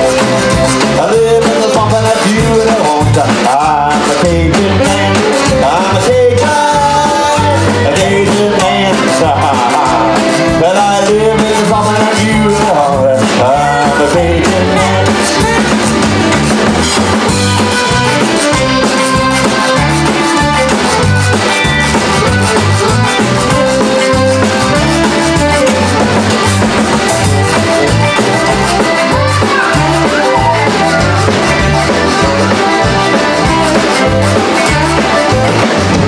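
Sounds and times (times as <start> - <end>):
cajun band playing: 0.0 - 36.0.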